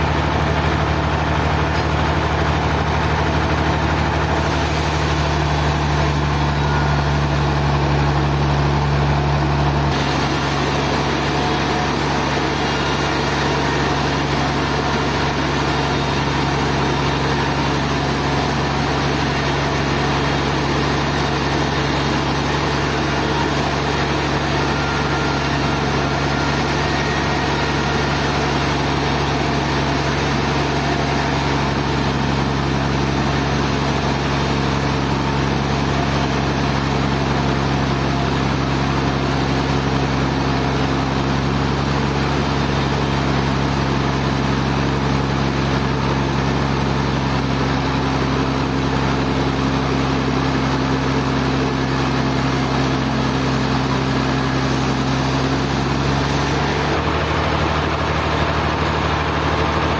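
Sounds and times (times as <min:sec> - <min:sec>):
dense hissing machinery noise: 0:00.0 - 0:59.9
engine hum: 0:00.0 - 0:59.9.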